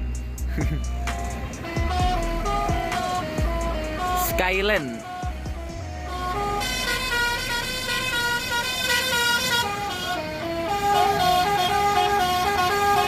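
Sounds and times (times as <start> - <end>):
musical bus horn melody: 0.0 - 13.0.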